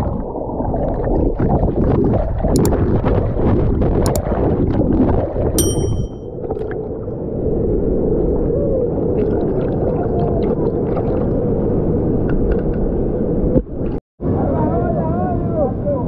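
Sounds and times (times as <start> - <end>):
muffled underwater river rushing: 0.0 - 5.6, 6.4 - 14.4.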